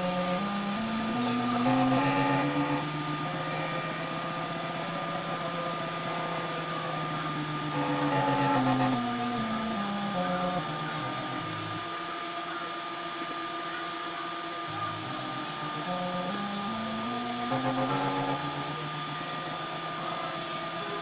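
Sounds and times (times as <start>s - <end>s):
constant high tone: 0.0s - 21.0s
stepper motors whining: 0.0s - 21.0s.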